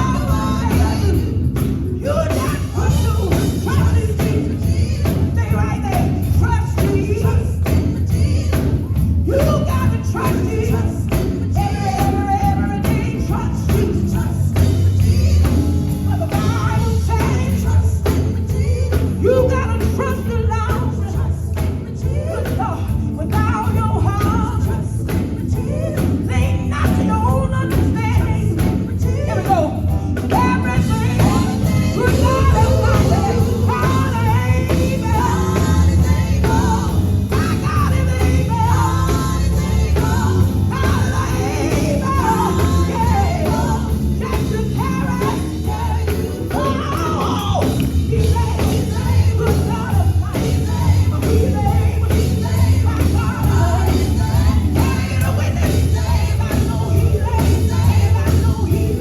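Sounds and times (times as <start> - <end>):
band with bass and drums: 0.0 - 59.0
group singing gospel: 0.0 - 59.0.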